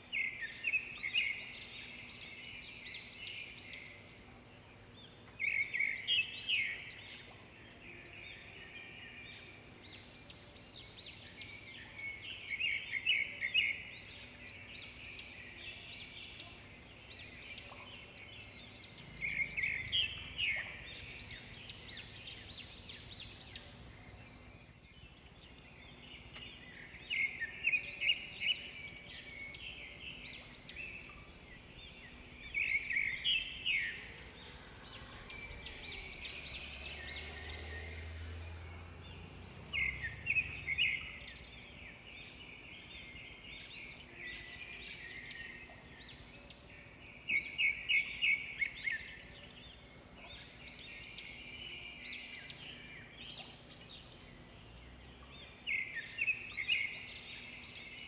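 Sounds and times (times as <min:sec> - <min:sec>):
outdoor background noise: 0:00.0 - 0:58.0.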